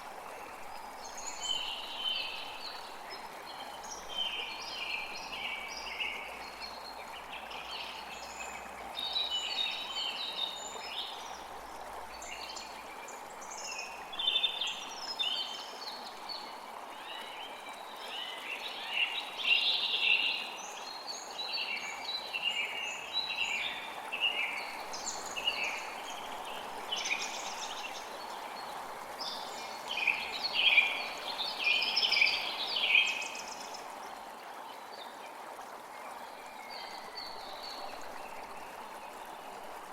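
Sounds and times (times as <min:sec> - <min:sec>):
flowing creek: 0:00.0 - 0:39.9.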